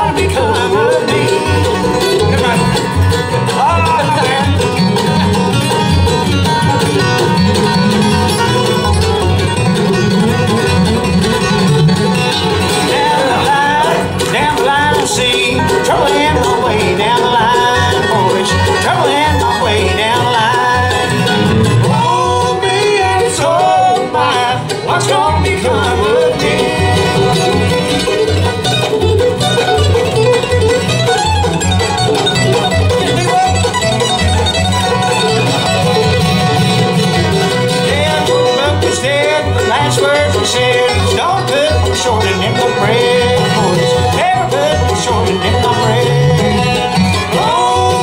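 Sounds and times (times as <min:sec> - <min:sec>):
acoustic guitar: 0:00.0 - 0:48.0
banjo: 0:00.0 - 0:48.0
fiddle: 0:00.0 - 0:48.0
mandolin: 0:00.0 - 0:48.0
upright bass steady beat: 0:00.0 - 0:48.0.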